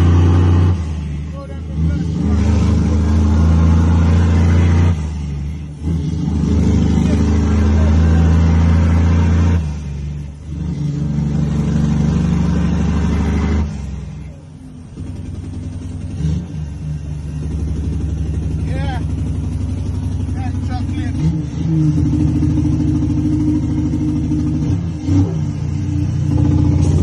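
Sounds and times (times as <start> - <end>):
dump truck diesel engine pulling: 0.0 - 27.0.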